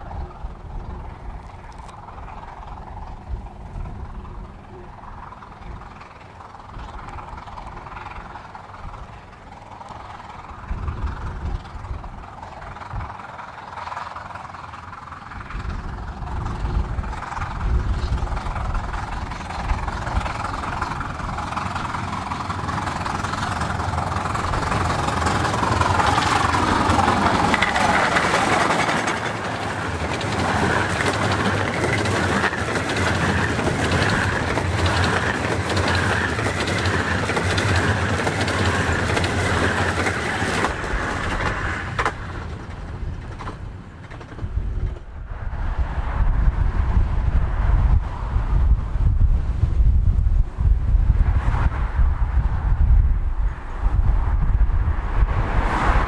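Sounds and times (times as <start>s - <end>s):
miniature steam locomotive approaching: 0.0s - 56.0s.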